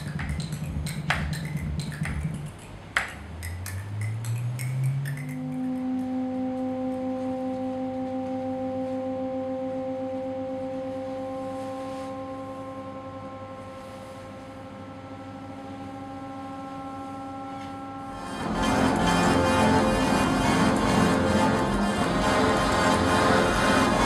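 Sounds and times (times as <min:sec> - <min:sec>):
electronic drone: 0:00.0 - 0:24.0.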